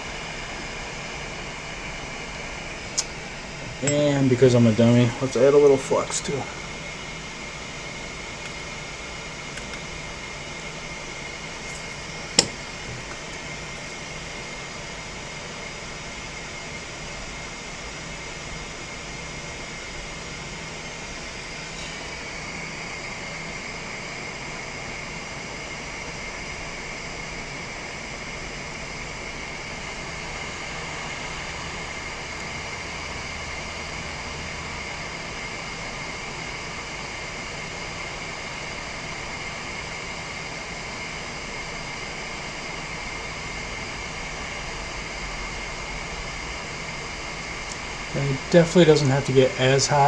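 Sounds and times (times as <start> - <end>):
hot air station hissing: 0.0 - 50.0.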